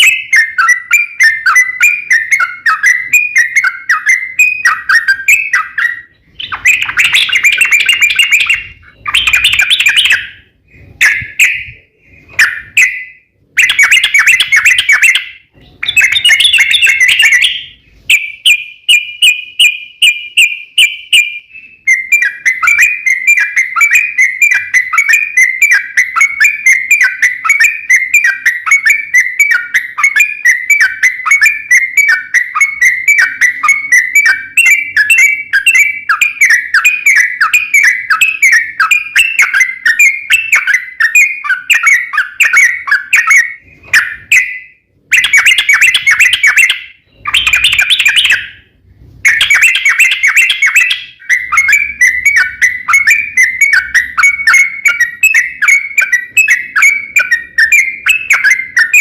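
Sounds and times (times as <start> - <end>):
bird singing fast chirps: 0.0 - 59.0.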